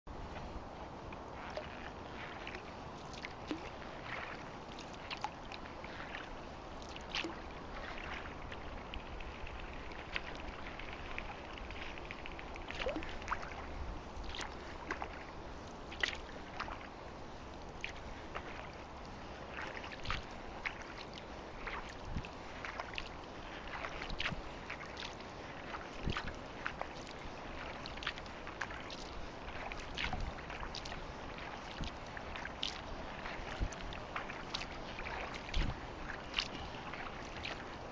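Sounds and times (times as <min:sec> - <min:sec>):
low steady rumble: 0:00.1 - 0:37.9
paddle dipping in water: 0:00.1 - 0:37.9
water splashes and drips: 0:00.2 - 0:37.9.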